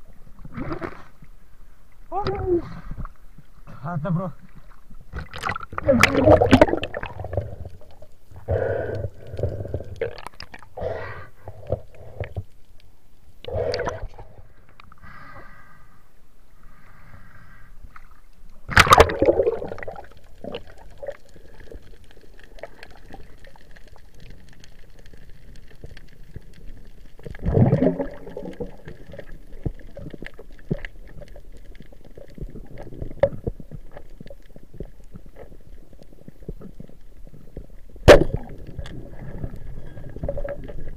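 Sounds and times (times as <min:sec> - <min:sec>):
water gurgling and sloshing: 0:00.0 - 0:15.0, 0:16.5 - 0:40.9.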